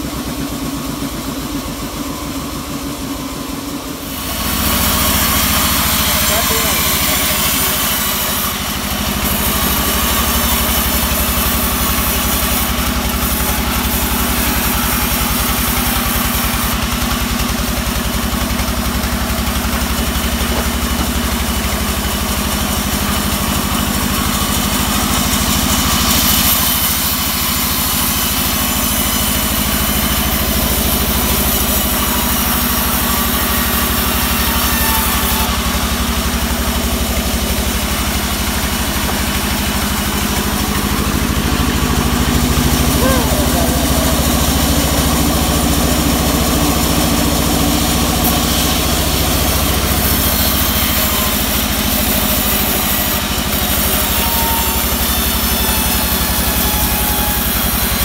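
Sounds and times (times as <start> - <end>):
sawmill engine droning: 0.0 - 58.0.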